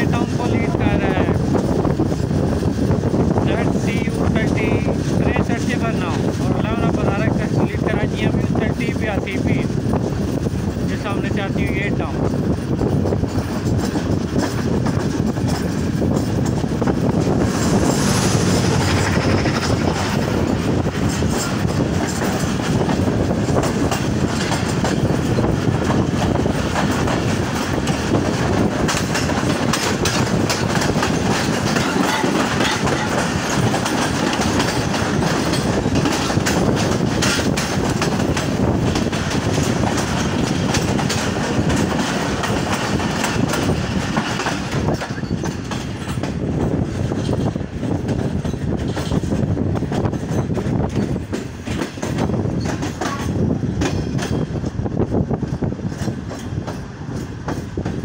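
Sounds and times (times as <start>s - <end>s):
train coaches rushing past: 0.0s - 58.0s
wheels clacking on rail joints: 0.0s - 58.0s.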